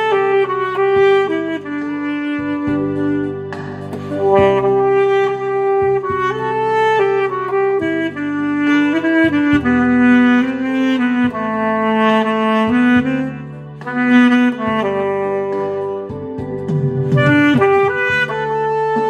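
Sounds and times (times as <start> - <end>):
instrumental backing track: 0.0 - 19.0
saxophone melody: 0.0 - 19.0.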